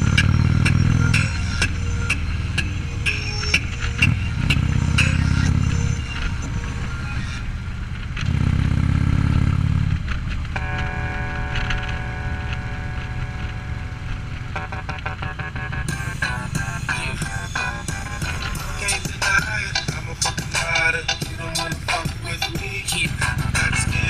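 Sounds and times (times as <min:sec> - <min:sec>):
steady higher tone: 0:00.0 - 0:08.1, 0:10.5 - 0:24.0
vehicle engine revving: 0:00.0 - 0:24.0.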